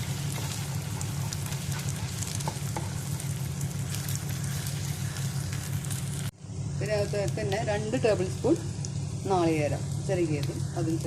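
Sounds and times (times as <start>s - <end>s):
food sizzling in a frying pan: 0.0s - 11.0s
steady low hum: 0.0s - 11.0s.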